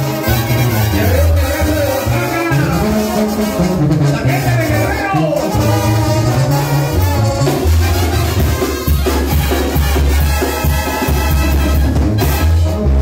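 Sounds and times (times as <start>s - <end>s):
latin dance band music: 0.0s - 13.0s.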